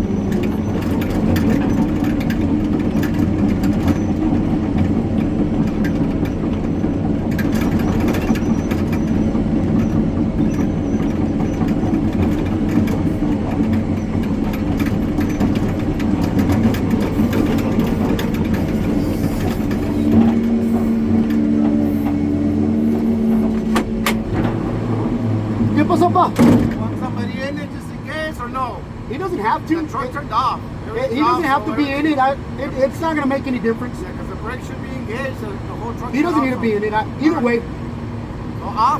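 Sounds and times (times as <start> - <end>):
heavy engine running: 0.0 - 38.9.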